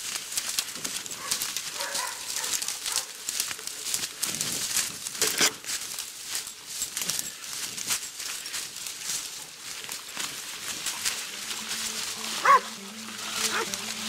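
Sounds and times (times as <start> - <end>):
feet running through dry leaves: 0.0 - 14.0.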